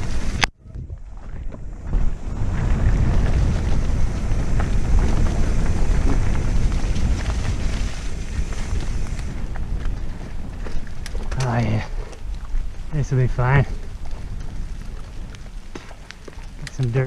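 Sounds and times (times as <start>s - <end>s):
bike tyre noise: 0.0s - 17.0s
wind buffeting microphone: 0.0s - 17.0s
bike clicks and rattles: 1.1s - 17.0s.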